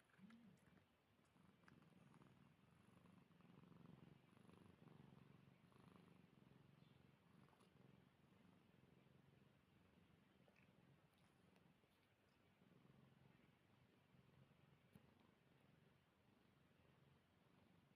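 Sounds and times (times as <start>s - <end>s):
cat purring: 0.0s - 17.9s.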